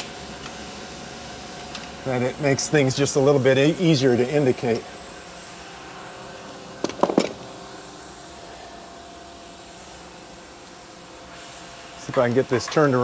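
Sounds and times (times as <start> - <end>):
machine tool humming: 0.0 - 13.0.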